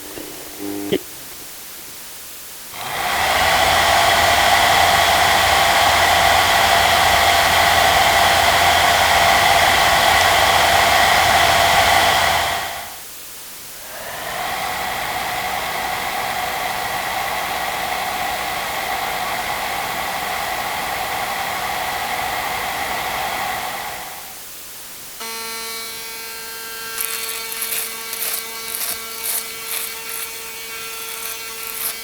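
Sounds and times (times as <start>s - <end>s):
appliance fan motor whine: 2.7s - 13.0s, 13.8s - 24.4s, 25.2s - 32.0s.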